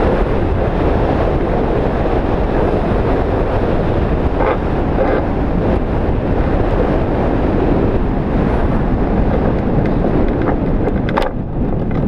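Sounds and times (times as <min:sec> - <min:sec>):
wind roaring on microphone: 0:00.0 - 0:12.0.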